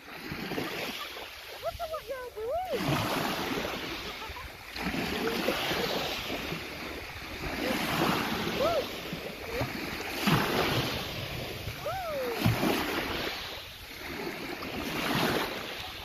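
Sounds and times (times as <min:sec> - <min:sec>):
gentle sea waves washing: 0:00.0 - 0:16.0
wind on microphone: 0:01.6 - 0:16.0.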